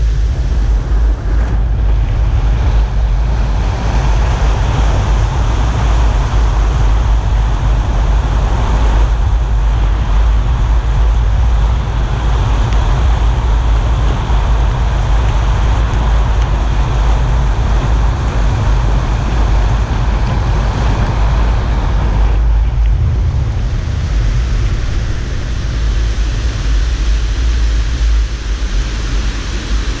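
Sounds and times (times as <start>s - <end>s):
low wind rumble: 0.0s - 30.0s
tyre noise on wet road: 0.0s - 30.0s.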